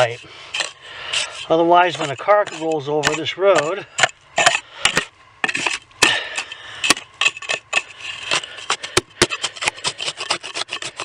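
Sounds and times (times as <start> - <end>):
sand and soil being scraped: 0.0 - 11.0.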